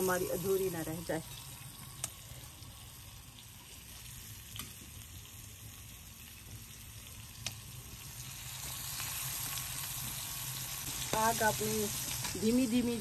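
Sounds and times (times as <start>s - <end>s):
liver sizzling in ghee: 0.0s - 13.0s.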